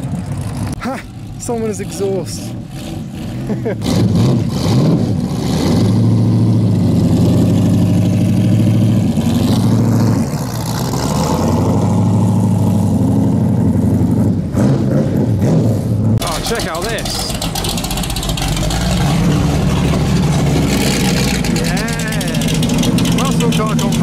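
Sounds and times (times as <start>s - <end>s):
deep engine and exhaust: 0.0s - 24.0s.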